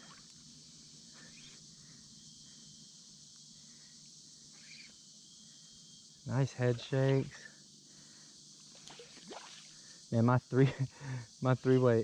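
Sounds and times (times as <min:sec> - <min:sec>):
faint insect chorus: 0:00.0 - 0:12.0.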